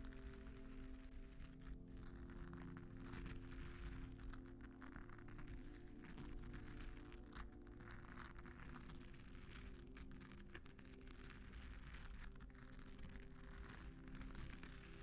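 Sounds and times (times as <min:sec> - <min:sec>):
scratching on sequin mat: 0:00.0 - 0:15.0
soft background music: 0:00.0 - 0:15.0.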